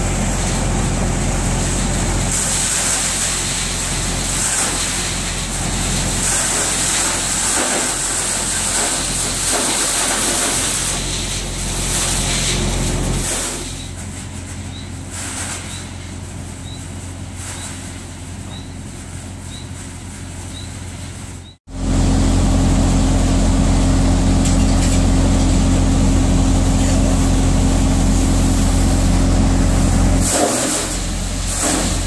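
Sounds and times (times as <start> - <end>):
hay blower humming: 0.0 - 32.0.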